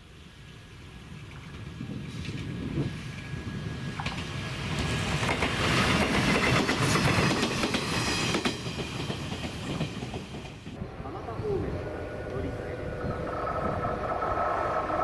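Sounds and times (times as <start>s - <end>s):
railcar running past: 0.0s - 15.0s.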